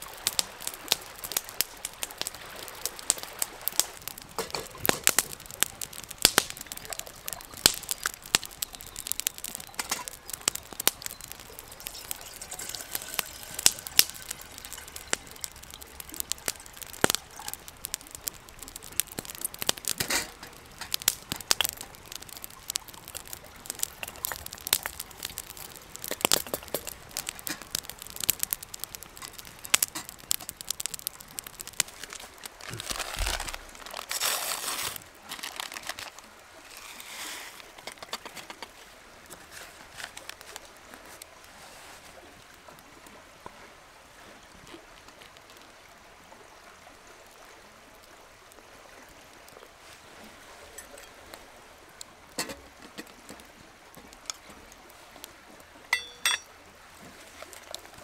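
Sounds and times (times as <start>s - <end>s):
campfire crackling and popping: 0.0s - 43.7s, 44.4s - 58.0s.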